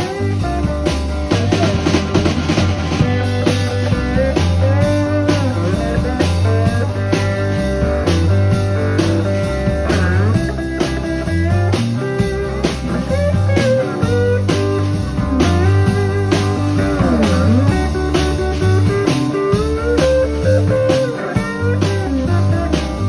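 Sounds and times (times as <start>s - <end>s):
lead guitar bending notes: 0.0s - 23.0s
rock band playing: 0.0s - 23.0s.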